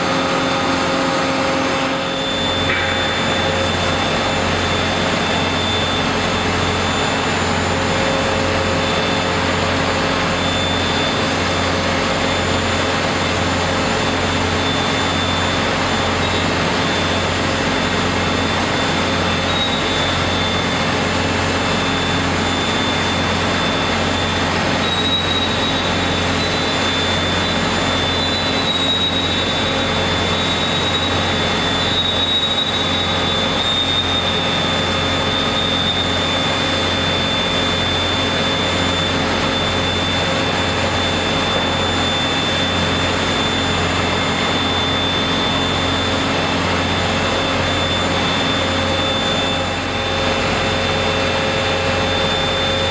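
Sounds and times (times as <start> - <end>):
coiling machine drone and hum: 0.0 - 52.9
high machine whine: 0.0 - 52.9.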